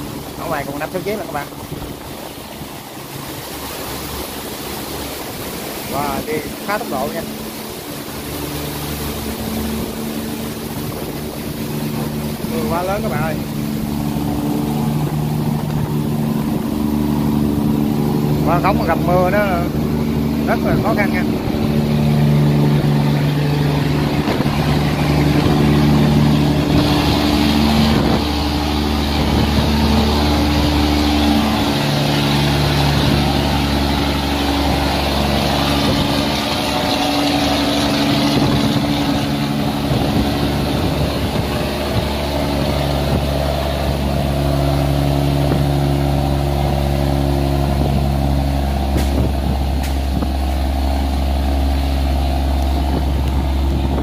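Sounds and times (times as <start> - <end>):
barge engines running: 0.0 - 54.0
heavy rain: 0.0 - 54.0.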